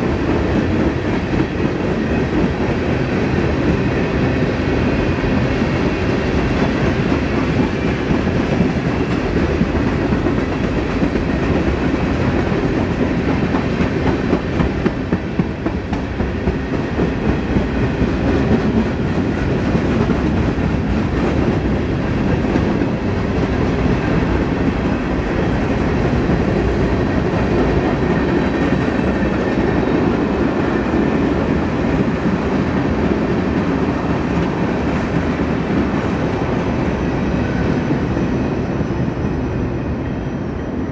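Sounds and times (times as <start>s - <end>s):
freight train wheels clattering: 0.0s - 39.6s.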